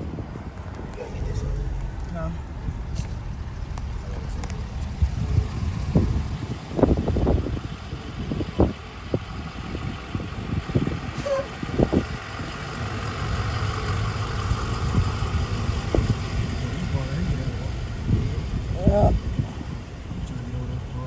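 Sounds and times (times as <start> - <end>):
engine and road noise in cabin: 0.0 - 21.0.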